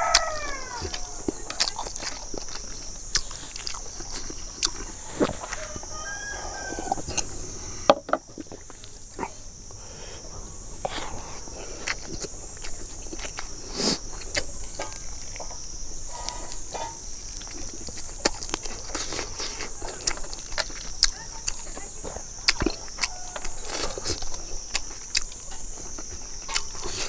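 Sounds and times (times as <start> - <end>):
man chewing and lip smacking: 0.0 - 5.9, 6.9 - 7.6, 10.8 - 27.0
high-pitched hiss: 0.0 - 27.0.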